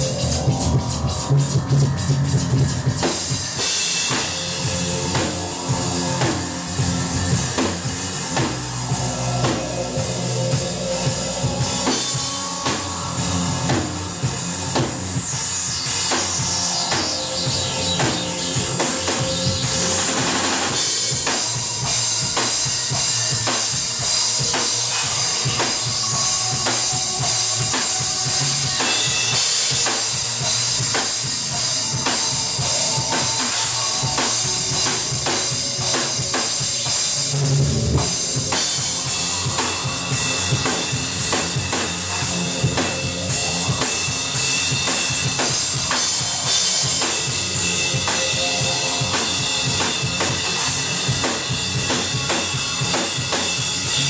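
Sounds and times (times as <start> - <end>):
drum kit pounding fast beat: 0.0 - 54.0
live rock band playing: 0.0 - 54.0.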